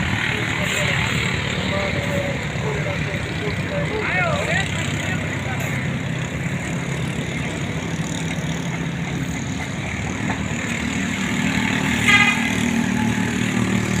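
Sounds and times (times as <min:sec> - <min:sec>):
diesel engines of paving machinery: 0:00.0 - 0:14.0.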